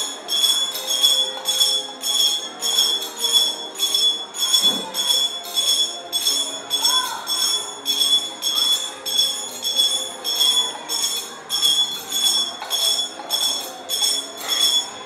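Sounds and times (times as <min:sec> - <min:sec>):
altar bells jingling: 0:00.0 - 0:15.0.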